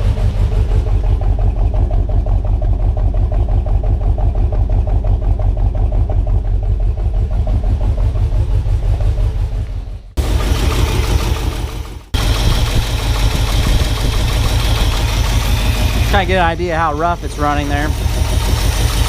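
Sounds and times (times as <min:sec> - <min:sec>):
engine running rough with misfire: 0:00.0 - 0:19.0.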